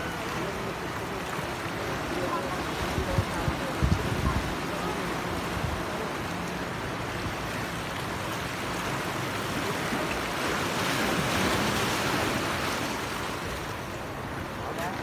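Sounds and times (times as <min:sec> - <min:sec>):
surf breaking against rocks: 0:00.0 - 0:15.0.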